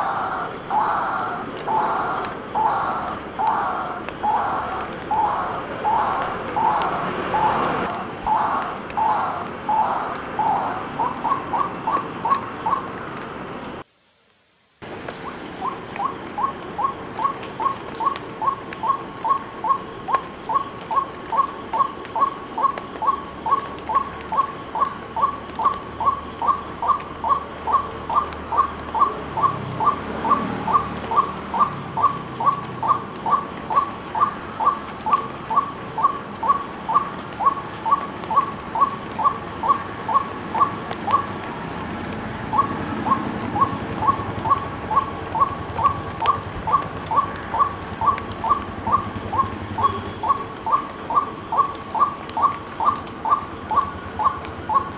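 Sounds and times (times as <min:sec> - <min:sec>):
waterhen croaking calls: 0:00.0 - 0:13.8, 0:14.8 - 0:54.9.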